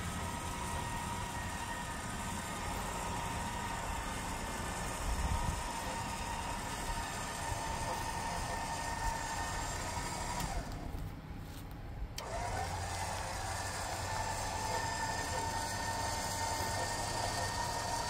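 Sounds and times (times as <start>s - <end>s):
electric winch motor whining: 0.0s - 11.0s, 12.2s - 18.0s.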